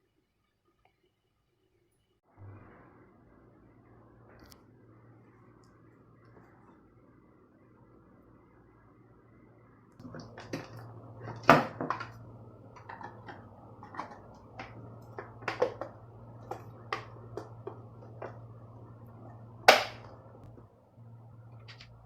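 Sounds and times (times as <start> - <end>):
steady low hum: 2.3 - 22.0.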